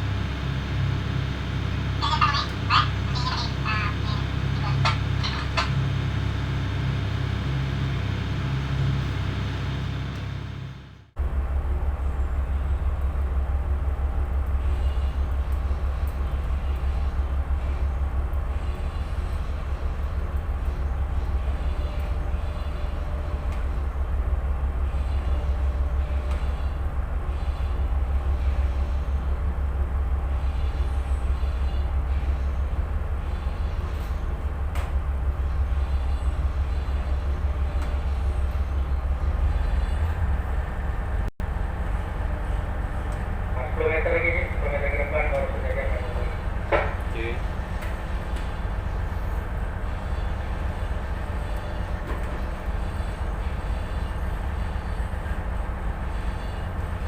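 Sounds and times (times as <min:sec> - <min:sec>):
diesel engine drone: 0:00.0 - 0:13.1, 0:14.6 - 0:57.0.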